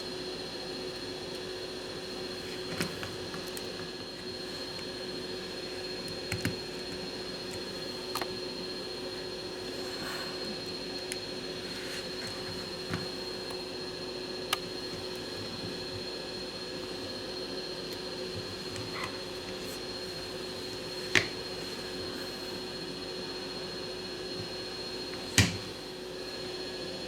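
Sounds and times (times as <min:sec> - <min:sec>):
machine hum with high whine: 0:00.0 - 0:27.0.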